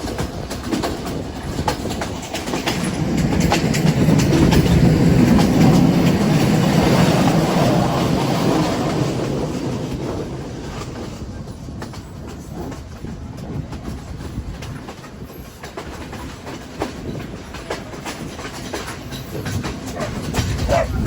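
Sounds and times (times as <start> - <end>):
train wheels rumbling on rails: 0.0 - 21.0
wheels clicking and clacking: 0.0 - 21.0.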